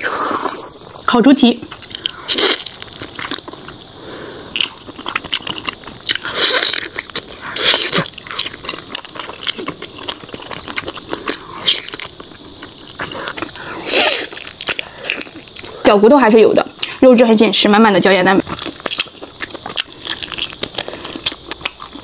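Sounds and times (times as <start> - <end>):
person chewing with clicking mouth: 1.7 - 15.8, 18.4 - 22.0.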